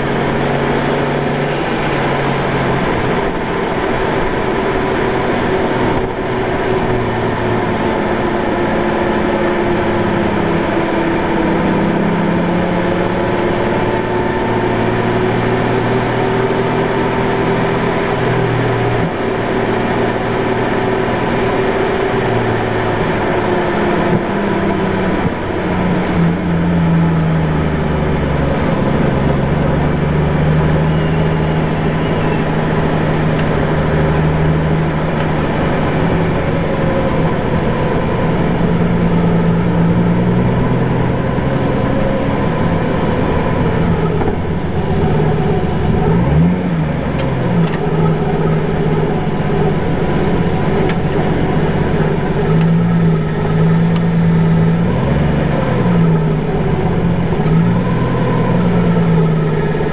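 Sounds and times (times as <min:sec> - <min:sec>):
car engine running at low revs: 0:00.0 - 0:59.9.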